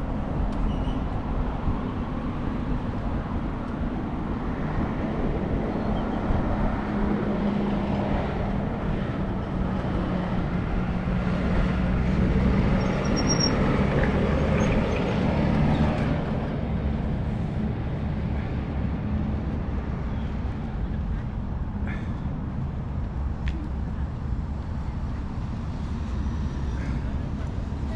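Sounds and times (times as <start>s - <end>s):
city traffic noise: 0.0s - 27.9s.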